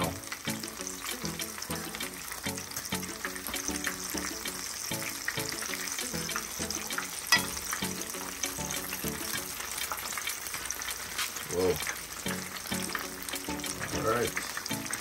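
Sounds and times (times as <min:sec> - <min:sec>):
background music with a beat: 0:00.0 - 0:09.7, 0:12.2 - 0:15.0
fritters sizzling in oil: 0:00.0 - 0:15.0.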